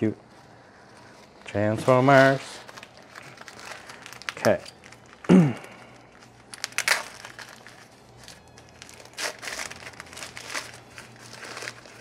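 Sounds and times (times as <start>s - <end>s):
paper crinkling and rustling: 0.2s - 12.0s.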